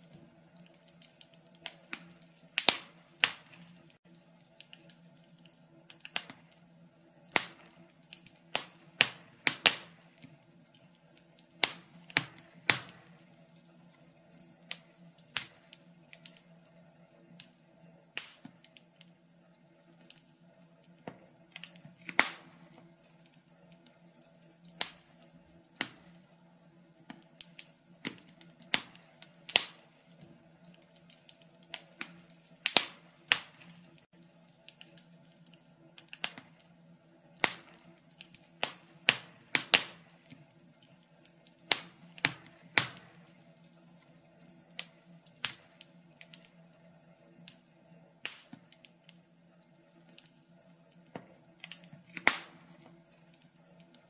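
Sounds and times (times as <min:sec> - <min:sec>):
faint steady hum: 0:00.0 - 0:54.0
logs crackling in fireplace: 0:00.0 - 0:54.0.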